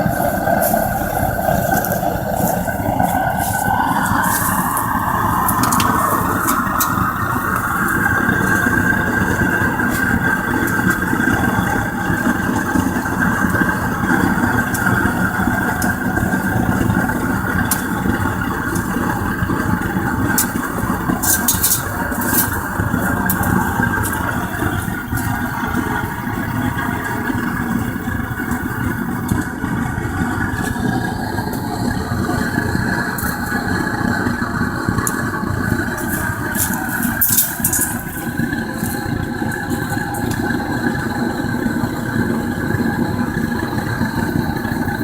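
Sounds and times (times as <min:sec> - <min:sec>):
furnace burner flame rushing: 0:00.0 - 0:45.0.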